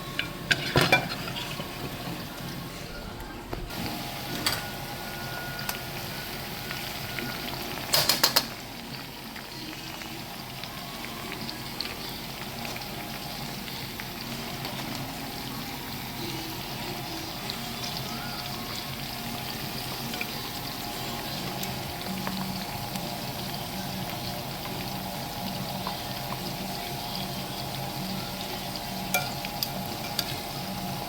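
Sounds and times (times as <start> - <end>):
chicken deep-frying in oil: 0.0 - 31.0.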